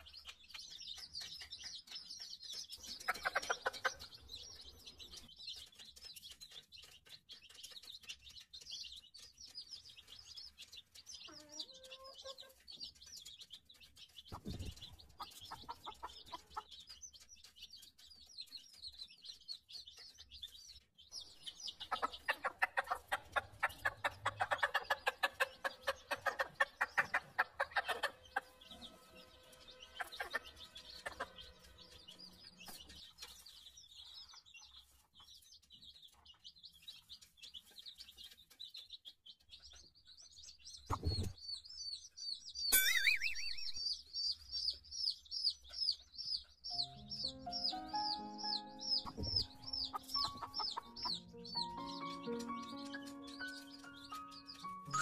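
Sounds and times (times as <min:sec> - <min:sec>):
chicken clucking: 0:00.0 - 0:55.0
chicks peeping: 0:00.0 - 0:55.0.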